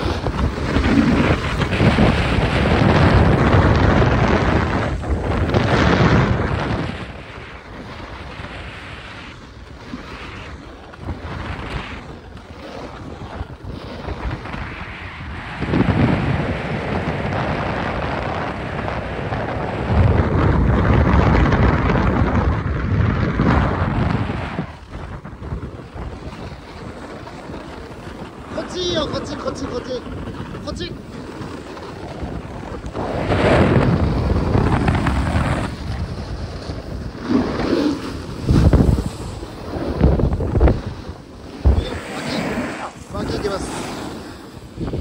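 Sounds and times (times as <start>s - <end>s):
ski edges sliding on snow: 0.0s - 14.9s, 23.3s - 45.0s
wind buffeting microphone: 0.0s - 45.0s.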